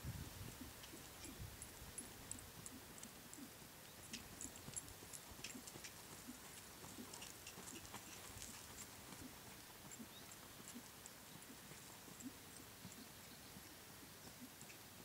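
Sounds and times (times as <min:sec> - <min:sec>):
horse trotting on sand: 0:00.4 - 0:14.9.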